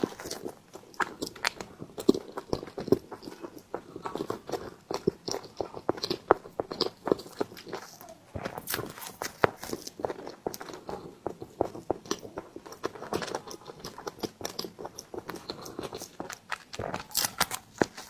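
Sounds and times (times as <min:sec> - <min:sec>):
person chewing bread: 0:00.0 - 0:18.0.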